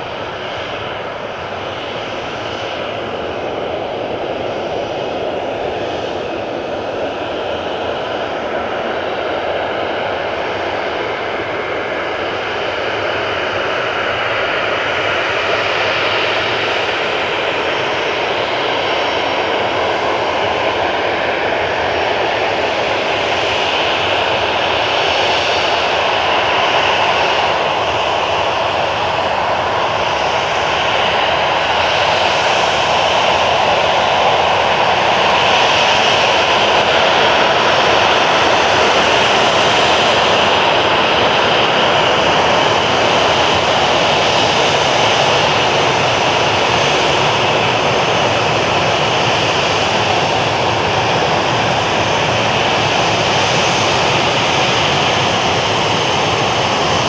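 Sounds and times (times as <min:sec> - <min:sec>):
engine roar: 0:00.0 - 0:57.0.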